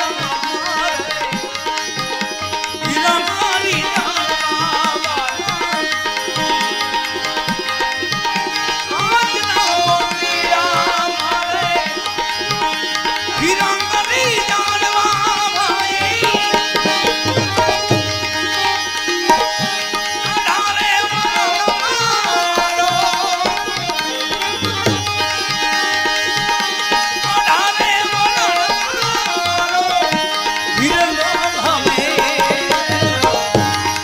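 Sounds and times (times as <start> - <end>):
devotional music melody: 0.0 - 34.0
tabla beat: 0.0 - 34.0.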